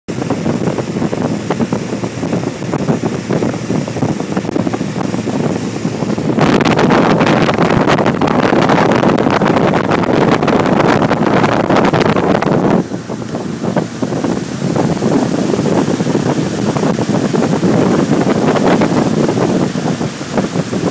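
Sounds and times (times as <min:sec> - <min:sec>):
motorboat engine: 0:00.1 - 0:20.9
water rushing: 0:00.1 - 0:20.9
wind buffeting microphone: 0:00.1 - 0:20.9.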